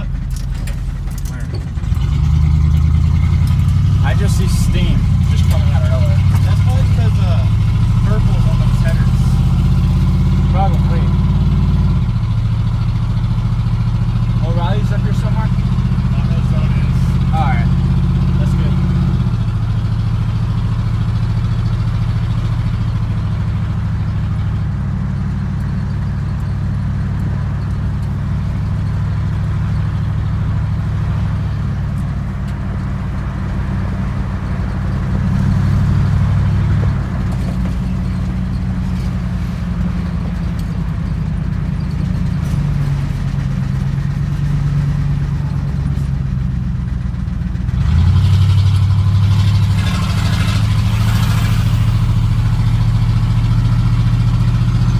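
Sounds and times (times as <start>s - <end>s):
truck engine drone from cab: 0.0s - 54.9s.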